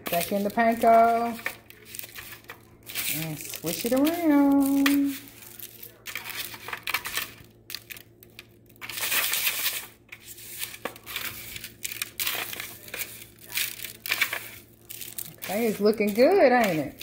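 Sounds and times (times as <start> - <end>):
breadcrumbs rustling: 0.0 - 17.0
foil pan crinkling: 0.0 - 17.0.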